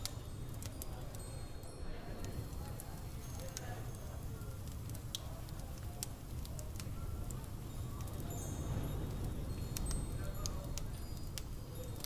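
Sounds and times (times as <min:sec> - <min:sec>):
faint background chatter: 0:00.0 - 0:12.0.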